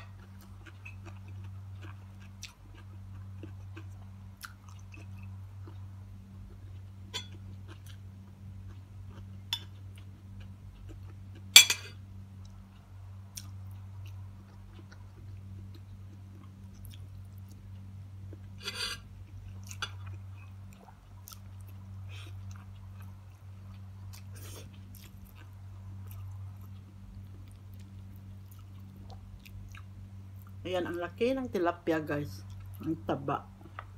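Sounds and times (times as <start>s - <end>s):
person chewing food: 0.0s - 30.6s.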